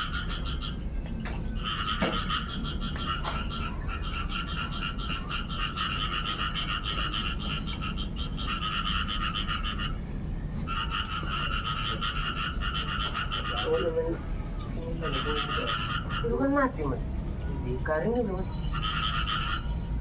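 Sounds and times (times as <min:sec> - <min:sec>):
rapid pulsing animal calls: 0:00.0 - 0:20.0.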